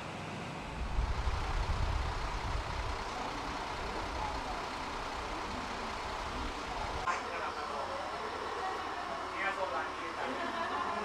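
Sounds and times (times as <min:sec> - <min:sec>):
railcar low rumble: 0:00.0 - 0:10.2.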